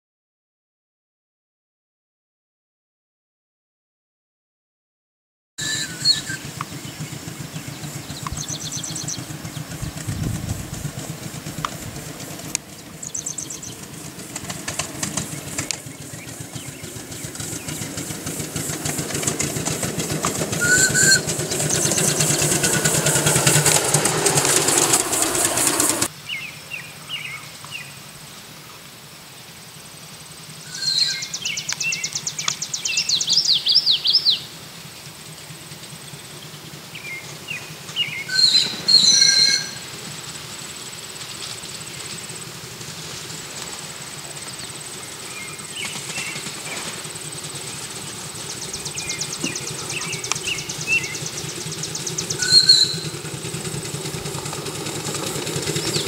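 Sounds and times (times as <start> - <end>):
birds chirping: 5.6 - 28.5, 30.2 - 56.0
steam locomotive chuffing: 5.6 - 56.0.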